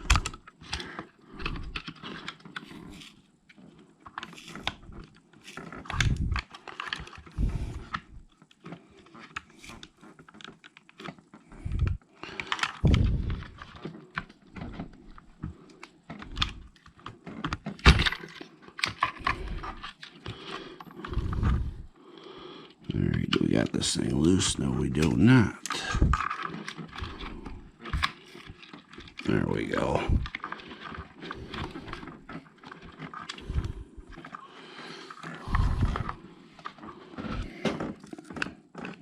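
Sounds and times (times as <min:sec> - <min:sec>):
plastic parts clicking and rattling: 0:00.0 - 0:22.0, 0:22.6 - 0:39.0.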